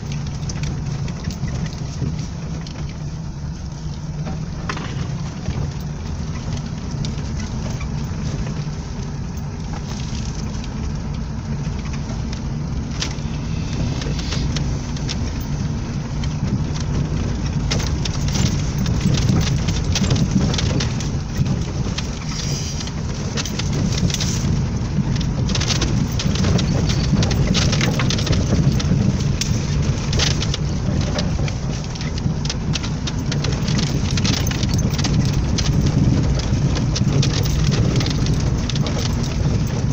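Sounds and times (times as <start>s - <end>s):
car engine running at low speed: 0.0s - 39.9s
knocks and crackles from car body: 4.2s - 39.9s.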